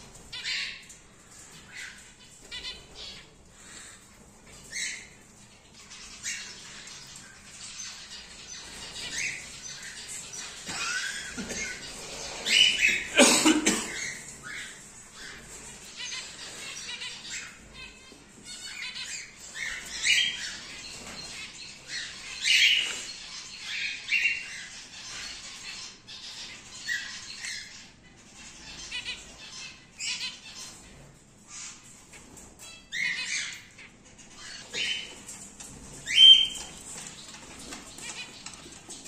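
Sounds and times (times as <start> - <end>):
cockatiels squawking and chirping: 0.0 - 13.2, 13.9 - 39.0.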